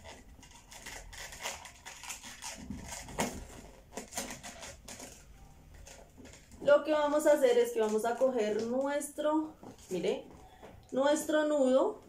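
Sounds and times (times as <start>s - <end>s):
rubber balloons squeaking: 0.0s - 10.6s.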